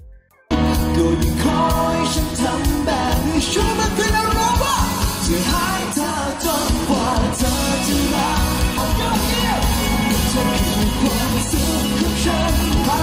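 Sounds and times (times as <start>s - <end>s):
drums: 0.0s - 13.0s
electric guitars: 0.4s - 13.0s
bass guitar: 0.5s - 13.0s
man singing: 0.5s - 13.0s.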